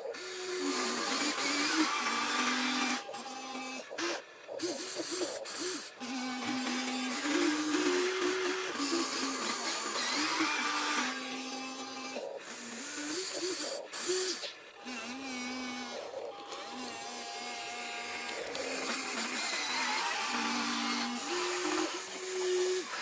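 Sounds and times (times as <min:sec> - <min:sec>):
electric gear motors whining: 0:00.0 - 0:23.0.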